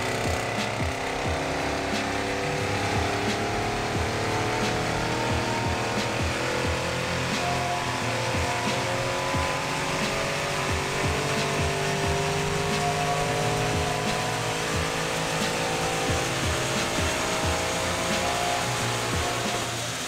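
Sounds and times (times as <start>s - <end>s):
low rhythmic thump: 0.0s - 19.8s
car engine under load: 0.0s - 20.0s.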